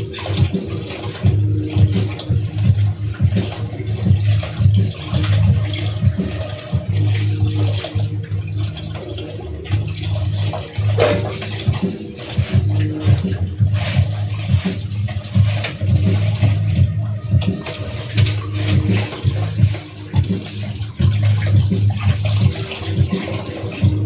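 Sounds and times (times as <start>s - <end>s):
tap running into a sink: 0.0s - 24.0s.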